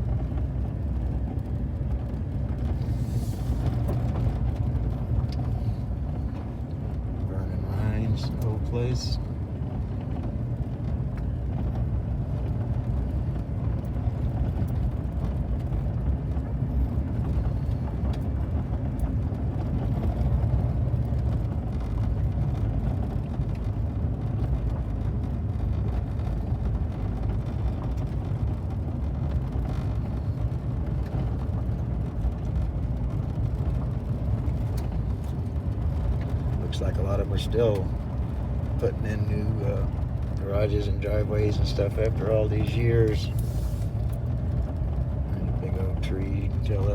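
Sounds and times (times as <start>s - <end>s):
vehicle engine and tyres rumbling: 0.0s - 46.9s.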